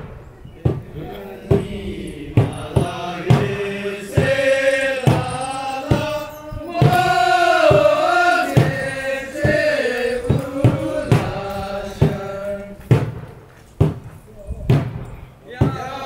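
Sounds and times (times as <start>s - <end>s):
large drum beating: 0.0s - 15.0s
group chanting in unison: 0.7s - 13.0s, 15.5s - 16.0s.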